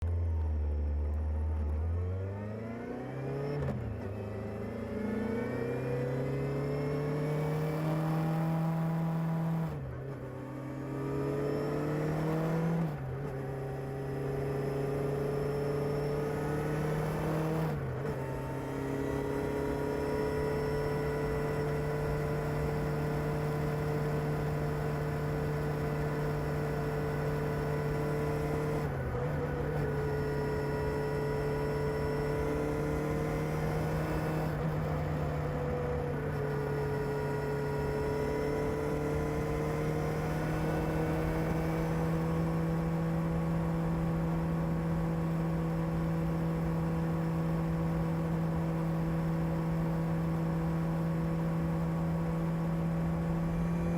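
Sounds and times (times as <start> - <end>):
motorcycle engine accelerating: 0.1 - 53.9.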